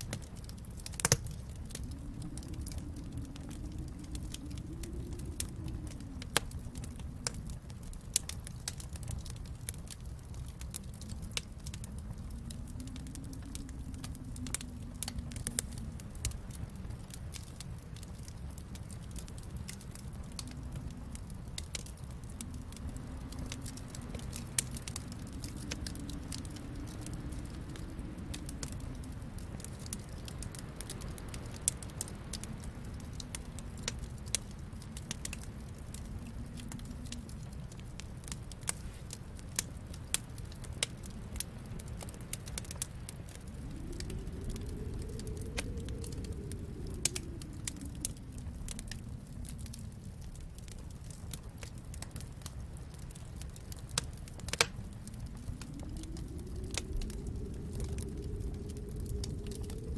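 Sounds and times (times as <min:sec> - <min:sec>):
low rumble: 0:00.0 - 0:59.9
wood fire crackling: 0:00.0 - 0:59.9.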